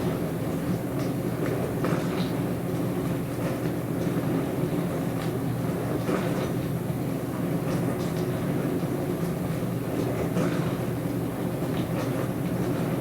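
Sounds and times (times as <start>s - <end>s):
dishwasher motor hum: 0.0s - 13.0s.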